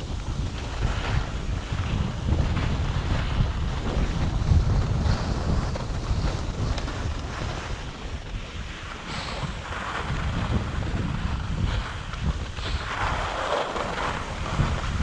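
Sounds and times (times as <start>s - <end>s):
skis sliding on snow: 0.0s - 15.0s
wind buffeting microphone: 0.0s - 15.0s.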